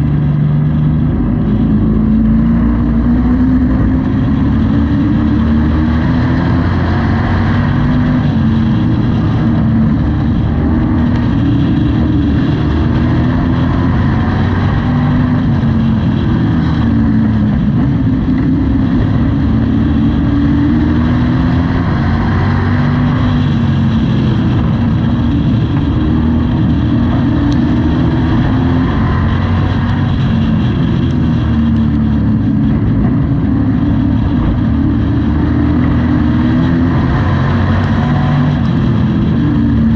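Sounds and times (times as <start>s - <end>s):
race truck engine revving: 0.0s - 39.9s.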